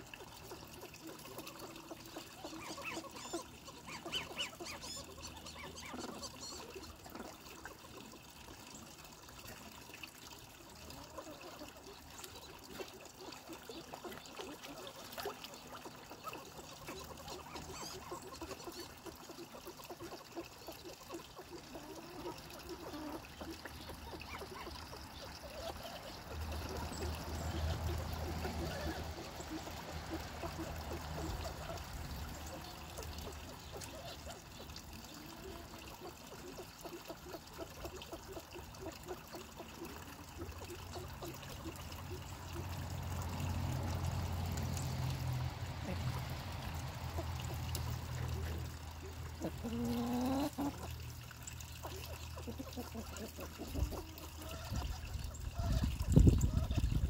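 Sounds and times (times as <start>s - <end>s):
water trickling into a pond: 0.0s - 57.0s.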